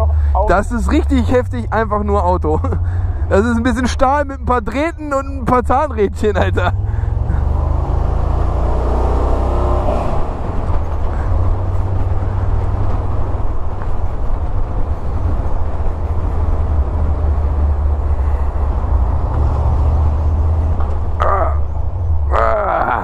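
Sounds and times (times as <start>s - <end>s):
deep engine drone: 0.0s - 23.0s
road noise: 0.0s - 23.0s.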